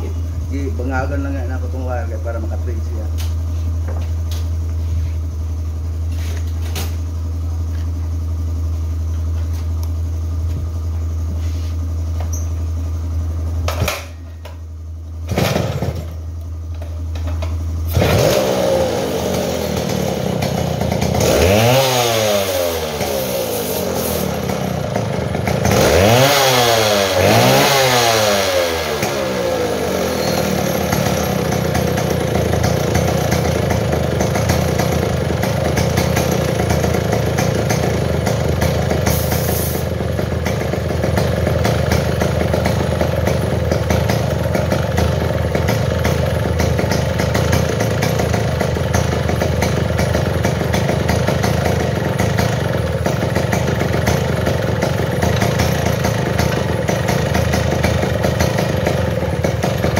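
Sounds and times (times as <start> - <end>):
chainsaw engine idling: 0.0 - 59.9.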